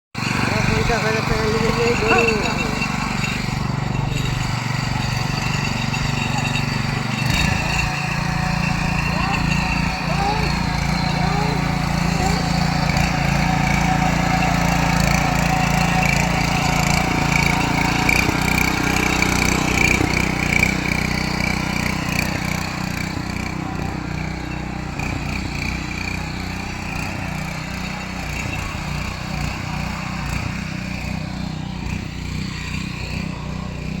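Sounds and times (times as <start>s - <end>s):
small engine running: 0.2s - 34.0s.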